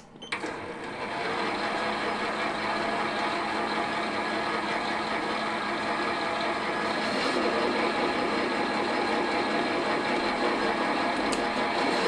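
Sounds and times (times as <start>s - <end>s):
lathe motor running: 0.5s - 12.0s.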